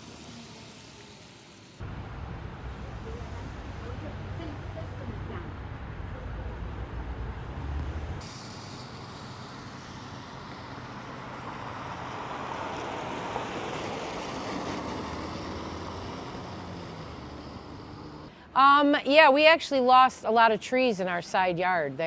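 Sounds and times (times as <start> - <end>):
motor vehicle passing: 0.0 - 18.3.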